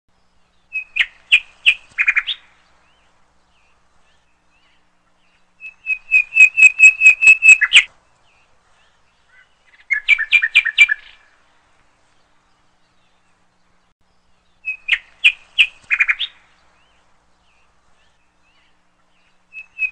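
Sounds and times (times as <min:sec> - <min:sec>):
bird chirping: 0:00.1 - 0:19.9.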